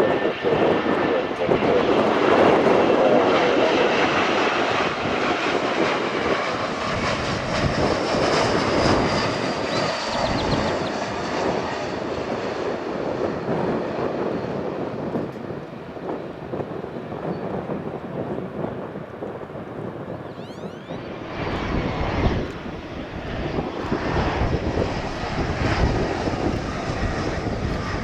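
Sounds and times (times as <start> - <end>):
jet engines passing close: 0.0 - 28.0.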